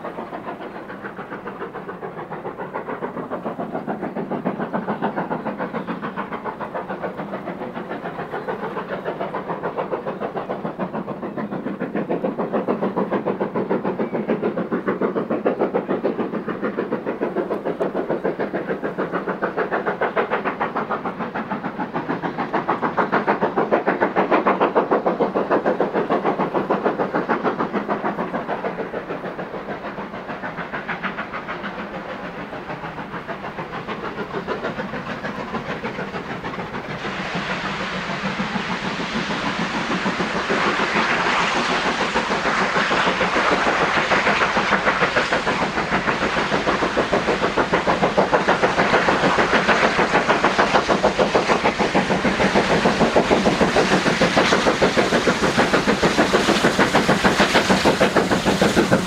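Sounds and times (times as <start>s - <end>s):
steam locomotive exhaust chuffs: 0.0s - 59.0s.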